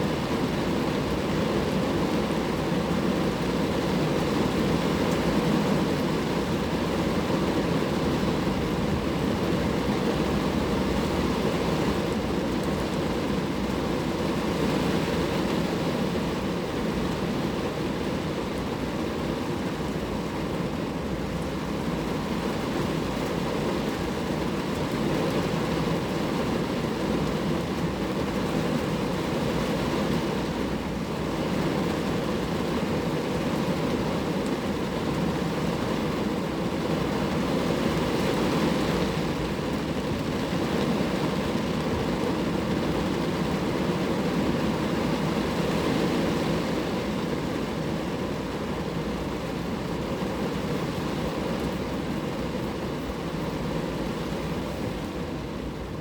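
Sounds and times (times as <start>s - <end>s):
rain falling on a car: 0.0s - 56.0s.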